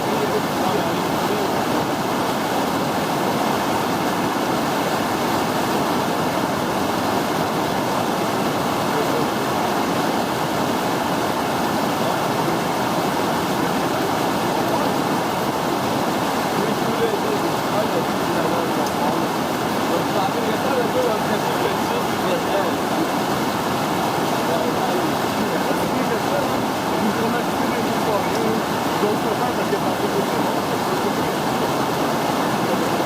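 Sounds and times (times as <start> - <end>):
river rapids rushing: 0.0 - 33.0.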